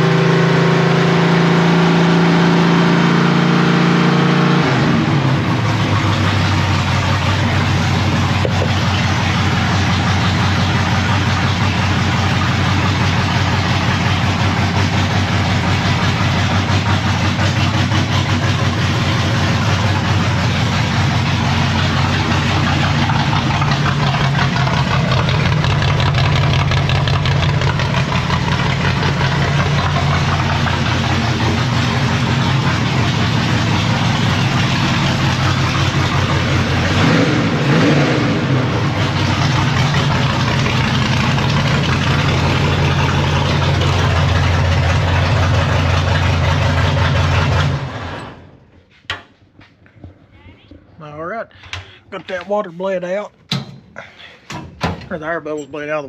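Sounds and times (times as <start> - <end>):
race car engine idling: 0.0 - 49.0.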